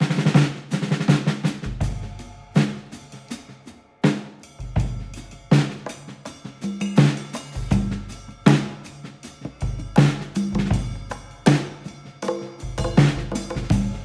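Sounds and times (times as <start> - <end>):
music with heavy drum beat: 0.0 - 14.0.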